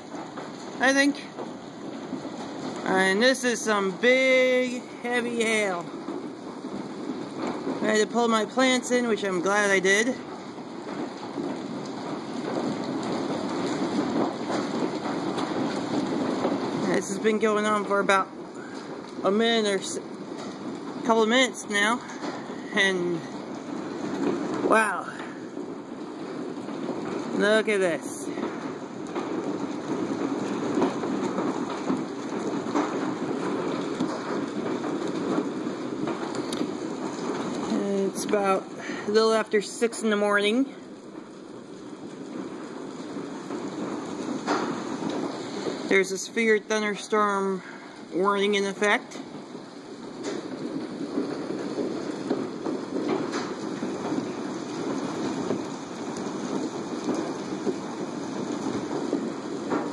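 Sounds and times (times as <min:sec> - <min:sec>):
heavy hail pelting: 0:00.0 - 0:59.9.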